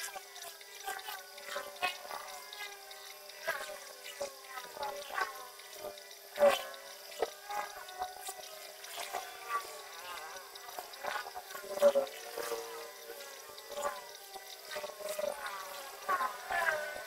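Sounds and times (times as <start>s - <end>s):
irregular ticks: 0.0s - 17.0s
stepper motors whining: 0.0s - 17.0s.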